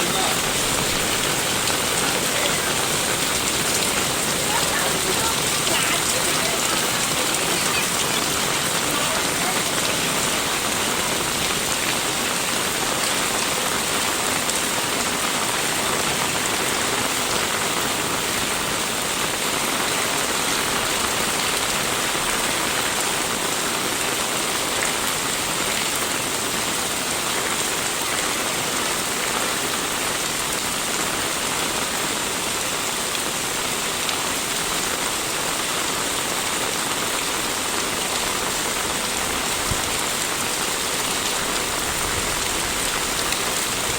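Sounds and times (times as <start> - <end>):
rain falling on roofs: 0.0 - 43.9.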